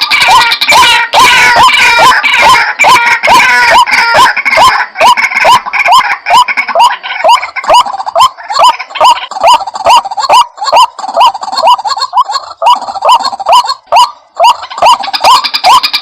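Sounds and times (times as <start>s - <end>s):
waterhen calling harshly: 0.0s - 16.0s.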